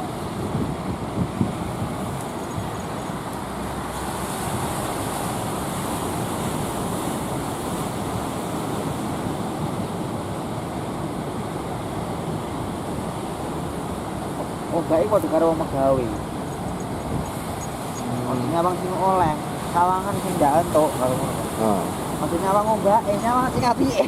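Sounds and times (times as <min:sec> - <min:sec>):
waves breaking: 0:00.0 - 0:24.0
wind on microphone: 0:00.0 - 0:24.0.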